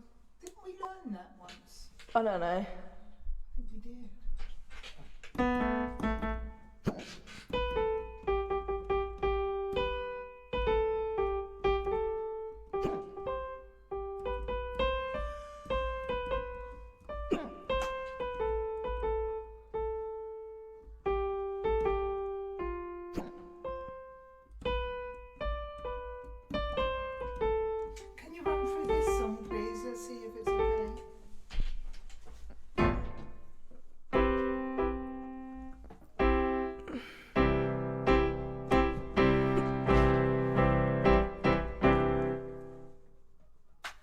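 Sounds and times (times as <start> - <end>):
piano keyboard melody: 5.4 - 6.9, 7.5 - 31.4, 32.7 - 43.2.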